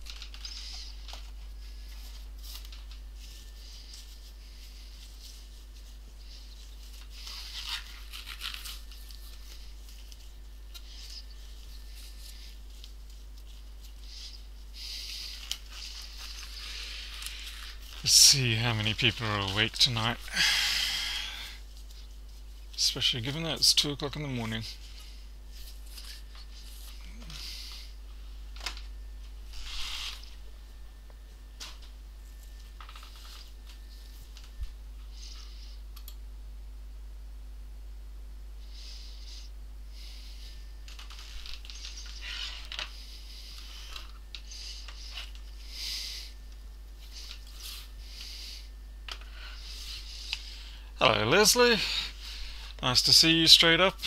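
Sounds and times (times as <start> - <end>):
rubber gloves rustling: 0.0 - 35.8, 38.8 - 52.8
steady low hum: 0.0 - 54.0.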